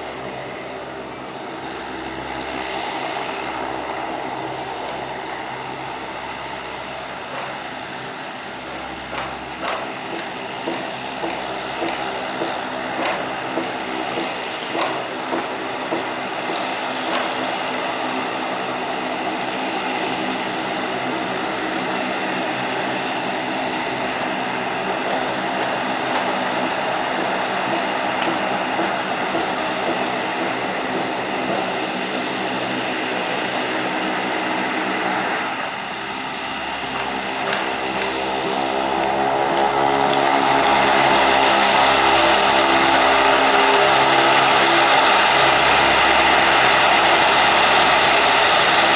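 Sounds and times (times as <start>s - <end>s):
turboprop aircraft taxiing: 0.0s - 48.9s.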